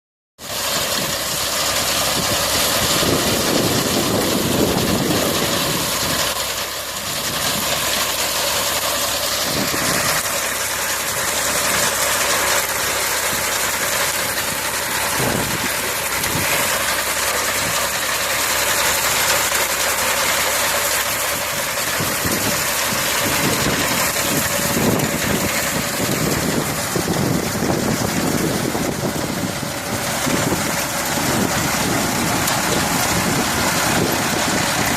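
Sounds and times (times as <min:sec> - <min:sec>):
tractor engine running: 0:00.4 - 0:34.9.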